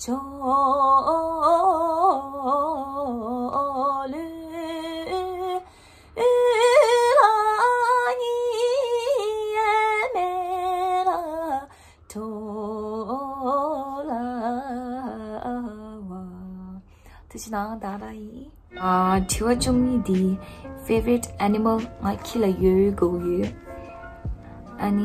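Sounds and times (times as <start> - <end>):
woman singing unaccompanied: 0.0 - 23.7, 24.8 - 25.0.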